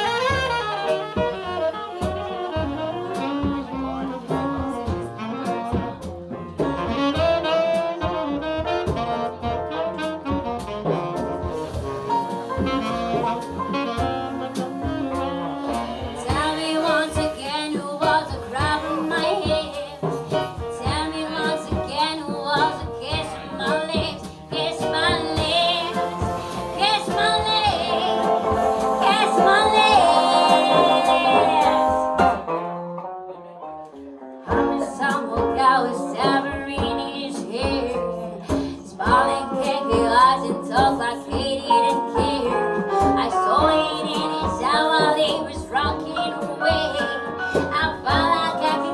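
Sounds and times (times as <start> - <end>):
drums: 0.0 - 33.2, 33.9 - 48.9
double bass: 0.0 - 48.9
piano: 0.0 - 48.9
saxophone lead: 0.0 - 48.9.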